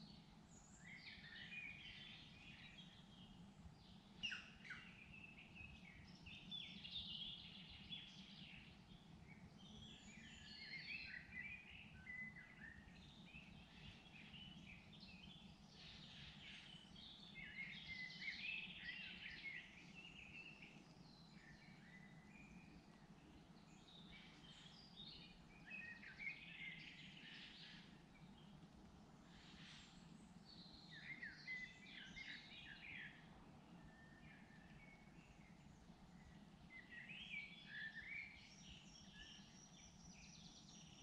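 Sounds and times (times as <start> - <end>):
faint low steady hum: 0.0 - 41.0
songbirds singing: 0.0 - 41.0.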